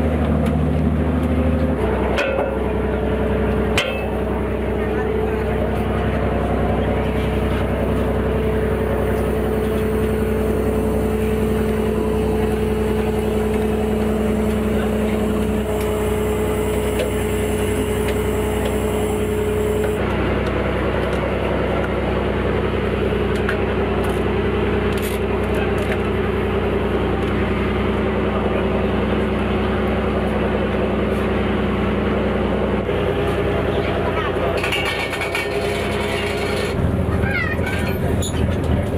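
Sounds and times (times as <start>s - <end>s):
winch and engine drone: 0.0s - 38.9s.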